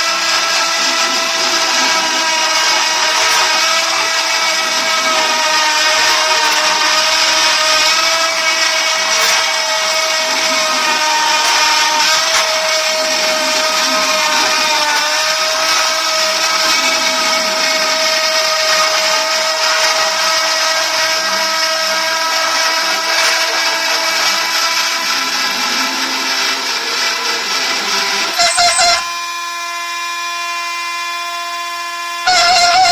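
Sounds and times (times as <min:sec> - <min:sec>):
router spindle whining: 0:00.0 - 0:32.9.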